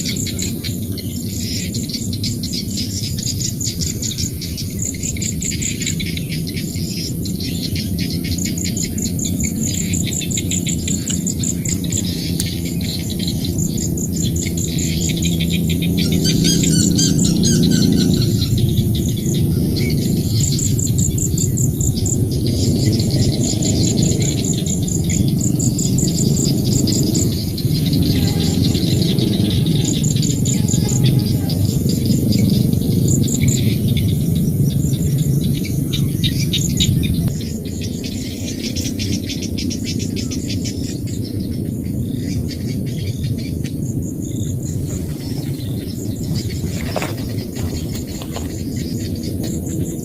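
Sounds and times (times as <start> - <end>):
bird calls: 0.0 - 34.2, 35.4 - 50.0
insect buzz: 0.0 - 40.4, 42.0 - 50.0
frogs croaking: 0.0 - 50.0.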